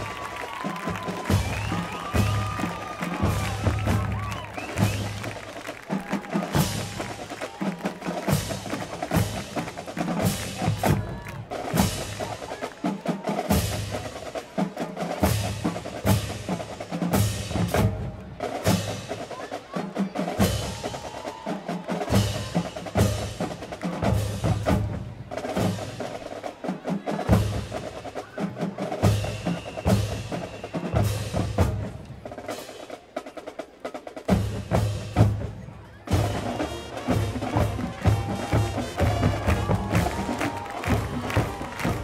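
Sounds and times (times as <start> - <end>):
snare drum strokes and rolls: 0.0 - 42.0.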